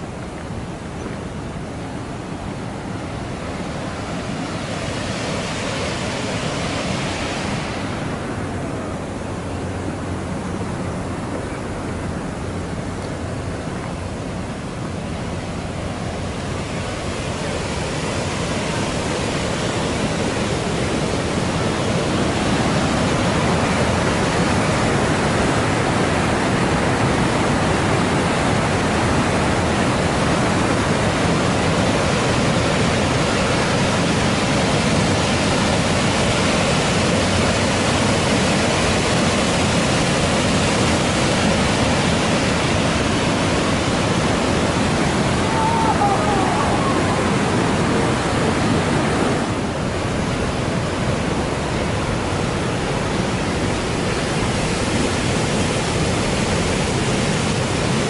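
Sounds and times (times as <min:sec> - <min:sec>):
river rushing through gorge: 0:00.0 - 0:58.0.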